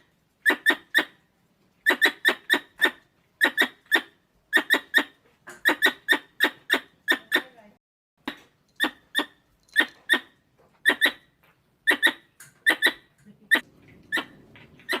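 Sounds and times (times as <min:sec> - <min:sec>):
squirrel chirping: 0:00.4 - 0:01.2, 0:01.8 - 0:07.6, 0:08.2 - 0:15.0.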